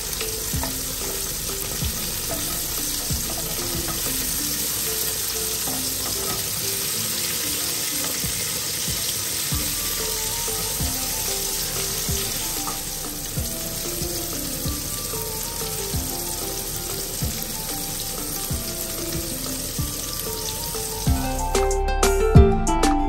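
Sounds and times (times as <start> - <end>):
wooden spatula turning food: 0.0 - 21.2
chicken sizzling in grill pan: 0.0 - 21.6
plucked-string music: 0.0 - 23.0
soft background music: 0.0 - 23.0.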